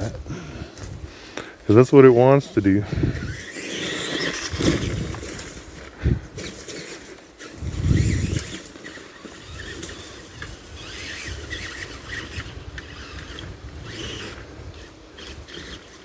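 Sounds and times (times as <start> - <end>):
toy truck motor whining: 2.4 - 16.0.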